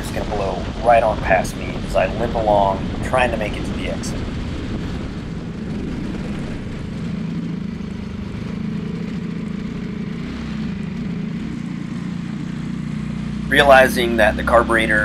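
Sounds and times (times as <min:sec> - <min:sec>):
kart engine running: 0:00.0 - 0:15.0.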